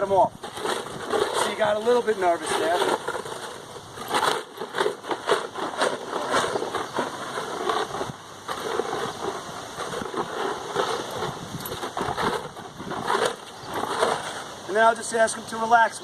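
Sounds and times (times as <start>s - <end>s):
rocks rattling in plastic bottle: 0.0s - 15.1s.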